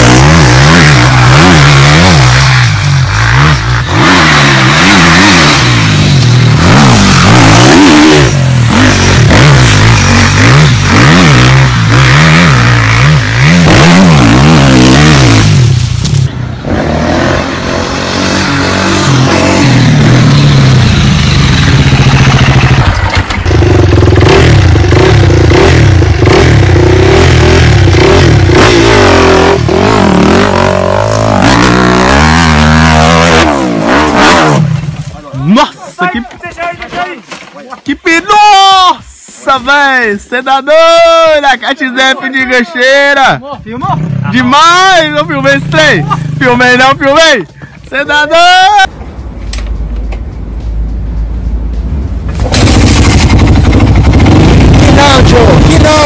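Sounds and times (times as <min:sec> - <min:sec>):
dirt bike engines revving: 0:00.0 - 0:49.0, 0:52.4 - 0:56.0.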